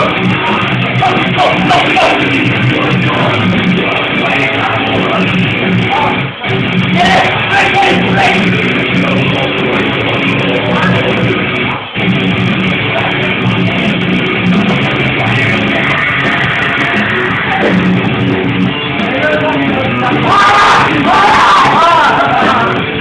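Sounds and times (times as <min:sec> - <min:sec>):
heavy rock music with guitar: 0:00.0 - 0:23.0.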